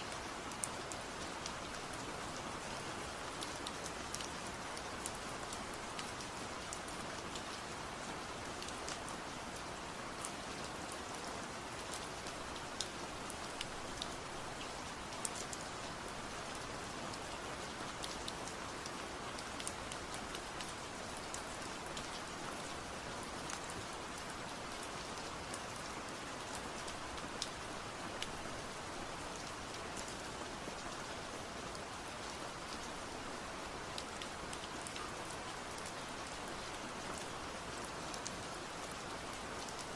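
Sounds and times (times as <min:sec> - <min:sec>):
rain falling: 0:00.0 - 0:39.9
raindrops ticking on a surface: 0:00.0 - 0:39.9.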